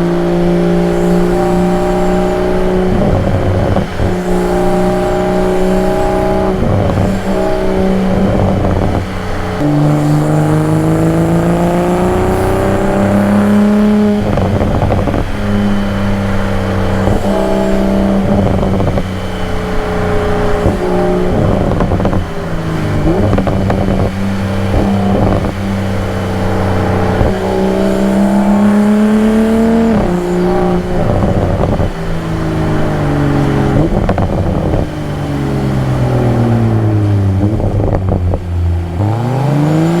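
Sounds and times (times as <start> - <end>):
car engine revving through gears: 0.0 - 40.0.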